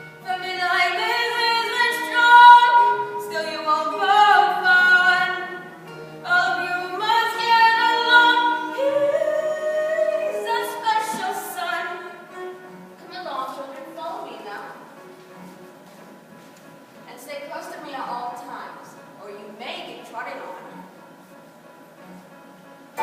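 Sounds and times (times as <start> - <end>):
light instrumental accompaniment: 0.0 - 23.0.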